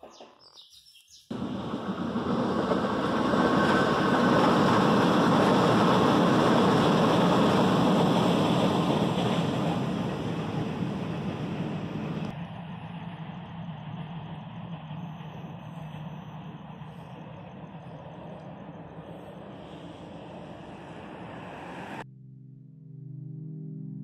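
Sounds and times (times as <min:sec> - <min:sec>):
passing vehicle road noise: 0:01.3 - 0:22.0.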